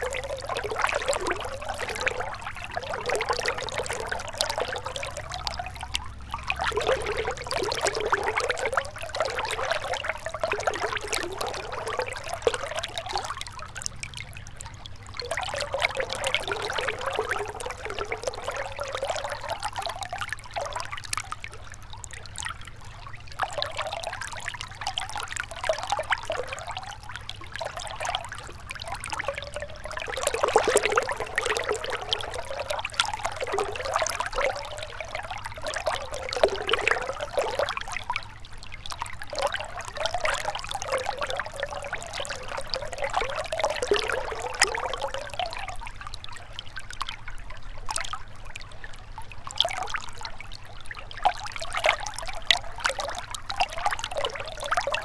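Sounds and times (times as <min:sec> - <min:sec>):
river water trickling: 0:00.0 - 0:55.0.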